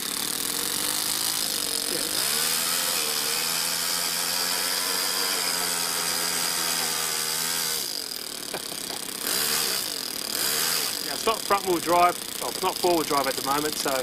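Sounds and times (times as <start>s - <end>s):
model engine running: 0.0s - 14.0s.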